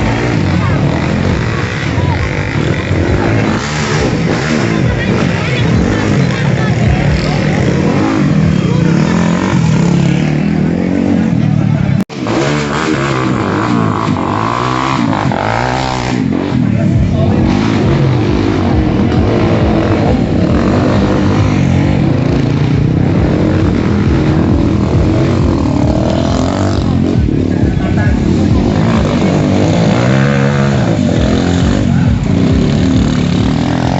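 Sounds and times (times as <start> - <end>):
dirt bike engines revving: 0.0 - 33.9.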